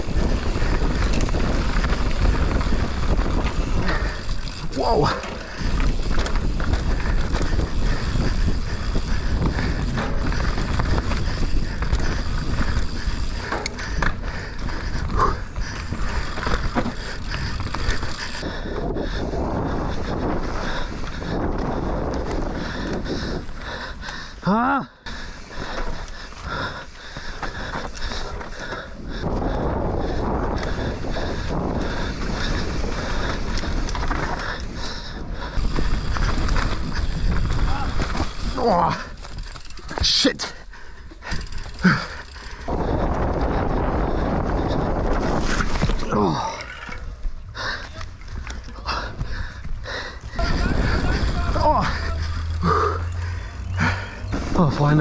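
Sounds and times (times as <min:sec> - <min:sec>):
wind rushing over microphone: 0:00.0 - 0:24.4, 0:25.2 - 0:40.0, 0:41.3 - 0:55.0
bike chain and frame clattering: 0:00.0 - 0:55.0
bike tyres rolling: 0:00.0 - 0:55.0.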